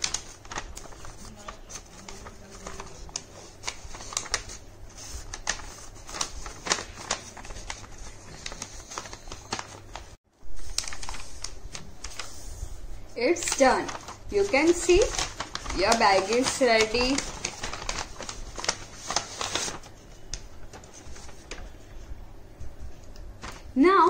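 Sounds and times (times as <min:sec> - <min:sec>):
paper being folded and creased: 0:00.0 - 0:12.7, 0:13.3 - 0:22.0.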